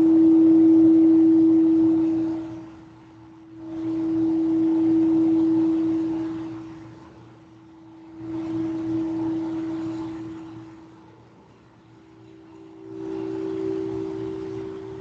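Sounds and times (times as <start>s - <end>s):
singing bowl low tone: 0.0s - 11.2s, 11.9s - 15.0s.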